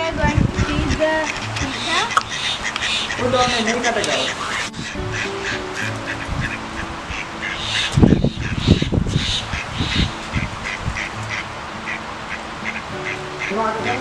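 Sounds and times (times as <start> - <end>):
birds calling: 0.0 - 14.0
ducks quacking: 0.3 - 14.0.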